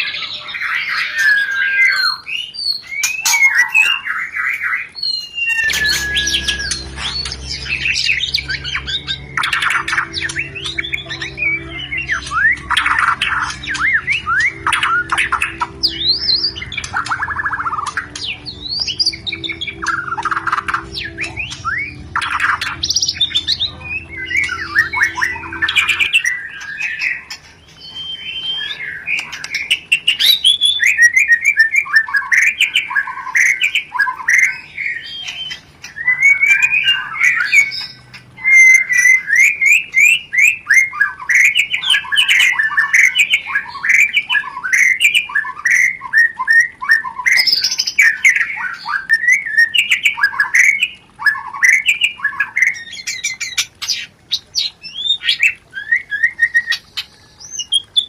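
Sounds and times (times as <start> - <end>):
bird chattering and whistling: 0.0 - 58.0
low steady hum: 5.2 - 58.0.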